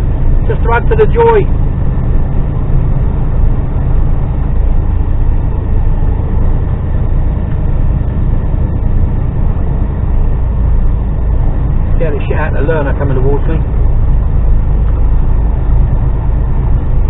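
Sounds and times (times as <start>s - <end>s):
lorry diesel engine droning: 0.0s - 17.0s.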